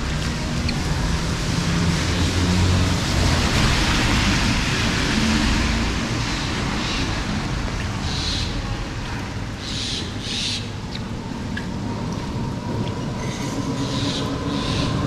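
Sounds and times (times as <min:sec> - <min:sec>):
rain on a wet street: 0:00.0 - 0:15.0.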